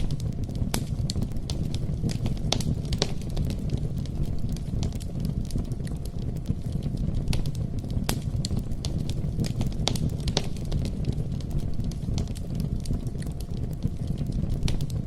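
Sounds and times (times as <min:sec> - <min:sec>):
campfire burning: 0:00.0 - 0:15.0
fire pops and crackles: 0:00.0 - 0:15.0.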